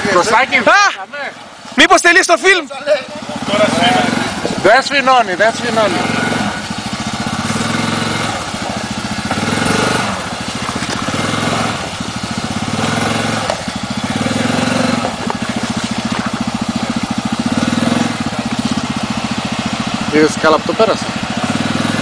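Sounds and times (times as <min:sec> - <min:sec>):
atv engine revving under load: 0:00.0 - 0:22.0.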